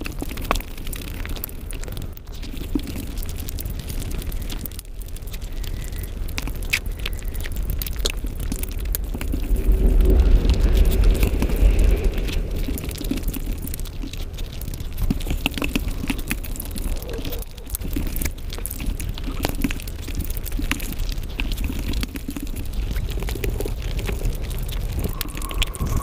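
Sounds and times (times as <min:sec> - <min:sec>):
small clicks and smacks: 0:00.0 - 0:25.1
mouth chewing: 0:00.0 - 0:26.0.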